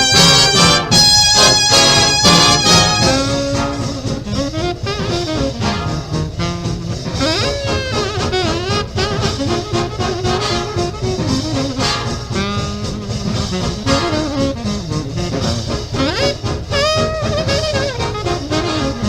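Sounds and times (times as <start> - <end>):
sliding brass notes: 0.0 - 19.0
swing jazz horn section: 0.0 - 19.0.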